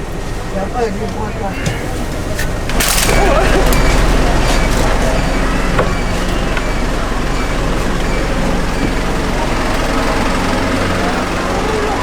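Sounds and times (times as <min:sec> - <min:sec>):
constant low hum: 0:00.0 - 0:12.0
traffic engines running: 0:00.0 - 0:12.0.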